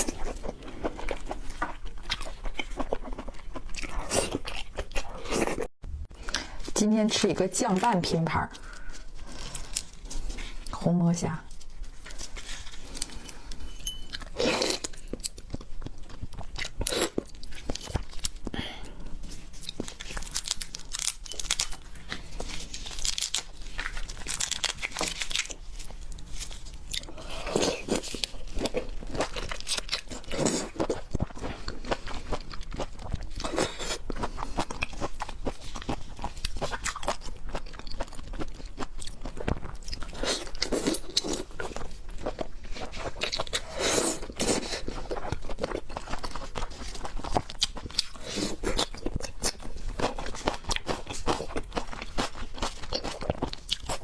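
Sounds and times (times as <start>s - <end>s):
crunchy chewing: 0.0s - 6.5s, 11.6s - 54.0s.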